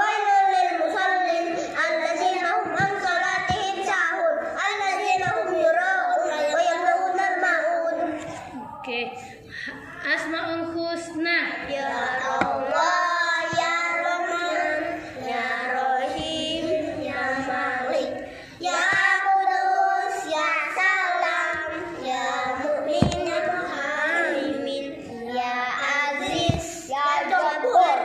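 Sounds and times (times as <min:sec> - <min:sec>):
children chanting recitation: 0:00.0 - 0:28.0.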